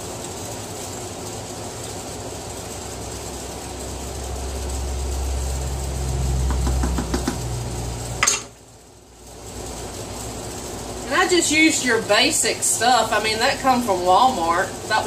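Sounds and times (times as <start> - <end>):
electric cooktop humming: 0.0 - 15.0.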